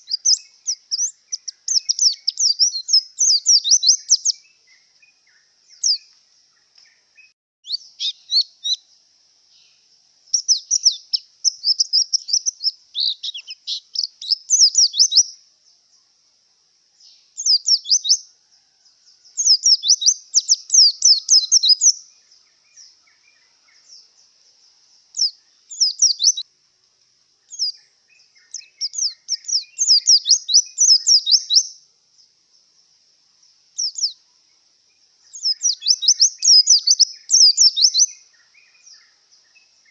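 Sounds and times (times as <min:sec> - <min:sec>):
bird twittering song: 0:00.0 - 0:16.2, 0:16.8 - 0:26.5, 0:27.3 - 0:39.9.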